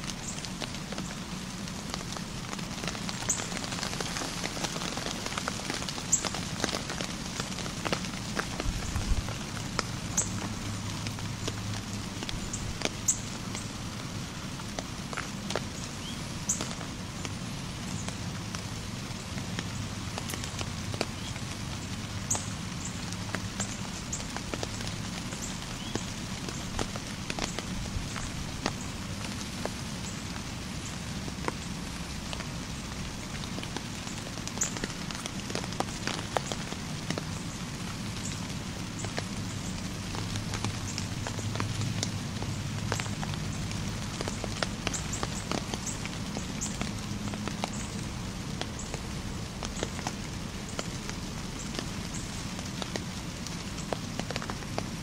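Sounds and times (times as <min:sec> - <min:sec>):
sharp ticks and pops: 0:00.1 - 0:13.7, 0:16.5 - 0:55.0.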